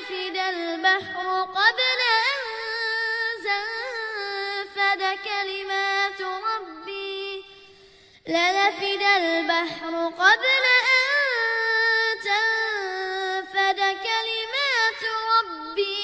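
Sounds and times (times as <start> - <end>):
child reciting melodically: 0.0 - 7.5, 8.3 - 16.0.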